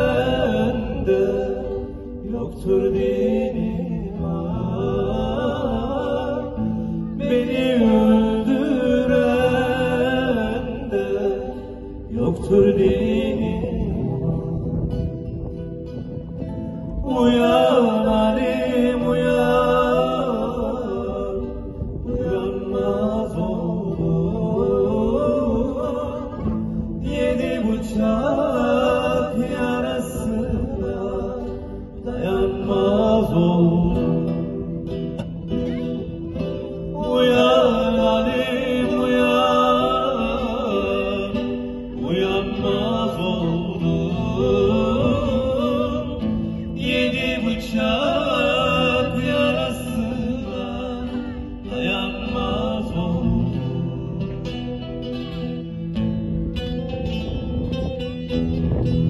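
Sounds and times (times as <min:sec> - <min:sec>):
acoustic guitar accompaniment: 0:00.0 - 0:59.0
man singing folk song: 0:00.0 - 0:59.0.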